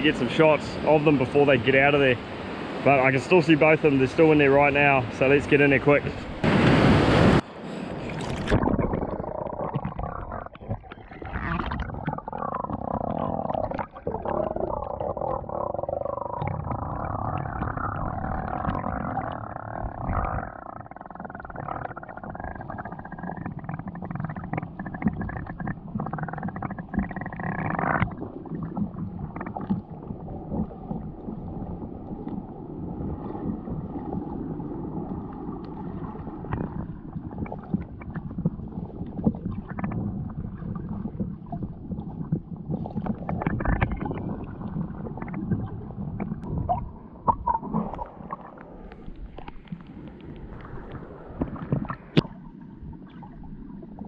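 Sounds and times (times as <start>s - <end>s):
underwater rush of moving water: 0.0s - 54.0s
crackles and knocks: 8.2s - 32.6s, 33.2s - 54.0s.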